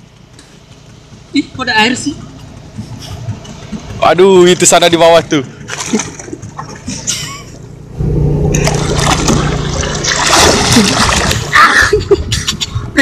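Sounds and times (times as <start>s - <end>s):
low engine hum: 0.0s - 13.0s
water splashing: 1.1s - 12.1s.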